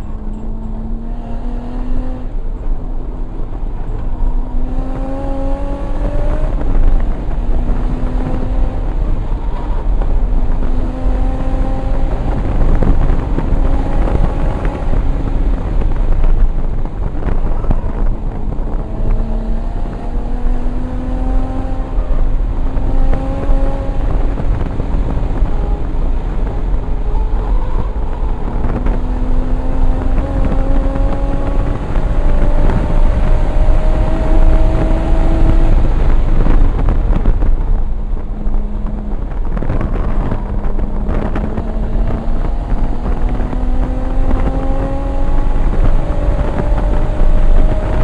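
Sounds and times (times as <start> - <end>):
car engine at racing speed: 0.0 - 48.0
road and wind noise: 0.0 - 48.0.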